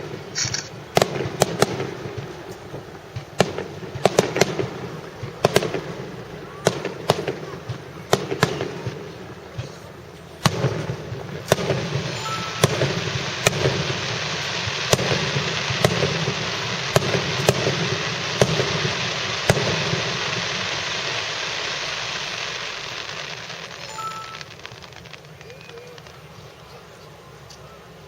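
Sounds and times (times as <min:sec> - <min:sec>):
fireworks bangs: 0:00.0 - 0:28.0
fireworks crackle: 0:00.0 - 0:28.0.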